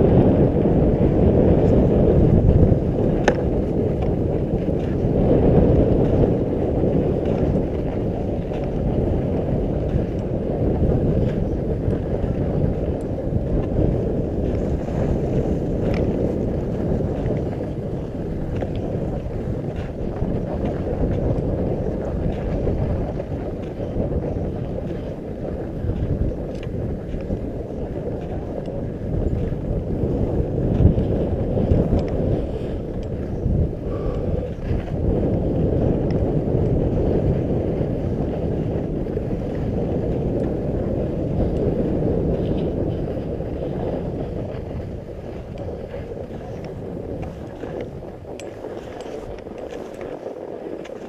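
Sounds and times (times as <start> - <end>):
skis sliding over snow: 0.0 - 51.0
wind rushing over microphone: 0.0 - 51.0.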